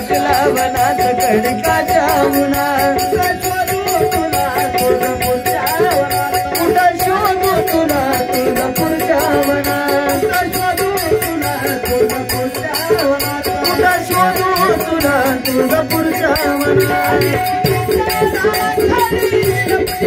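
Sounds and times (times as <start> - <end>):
rattling percussion beat: 0.0 - 20.0.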